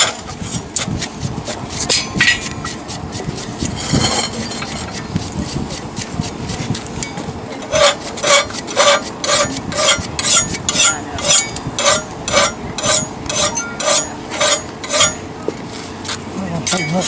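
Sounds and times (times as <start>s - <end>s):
hand file scraping on steel: 0.0s - 15.3s.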